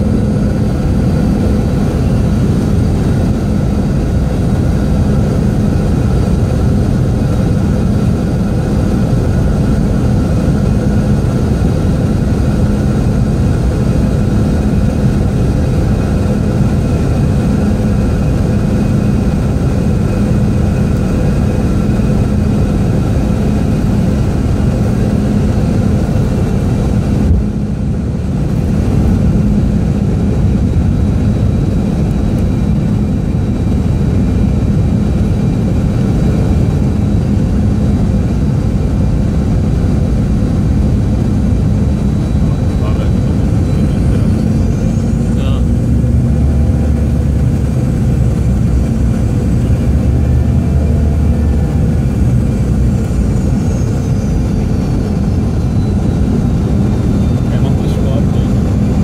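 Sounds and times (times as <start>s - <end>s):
airplane cabin roar: 0.0s - 59.0s
low hum: 0.0s - 59.0s.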